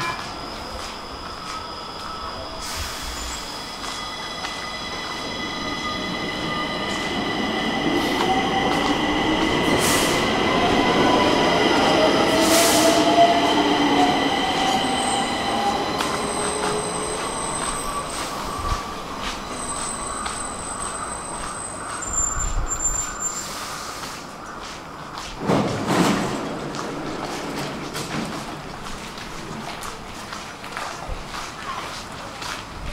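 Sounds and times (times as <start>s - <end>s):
metro train wheels squealing: 0.0s - 28.6s.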